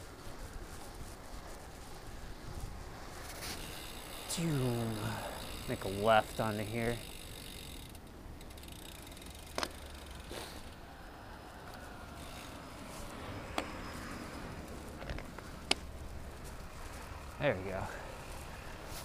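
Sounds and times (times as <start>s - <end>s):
bicycle clicks and rattles: 0.0s - 10.9s, 11.5s - 19.0s
tyres and wind rumble: 0.0s - 19.0s.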